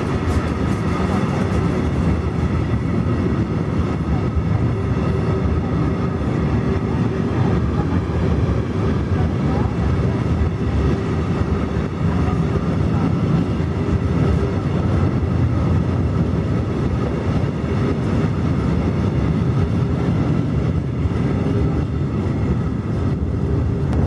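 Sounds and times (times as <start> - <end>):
freight train wheels clattering: 0.0 - 24.0.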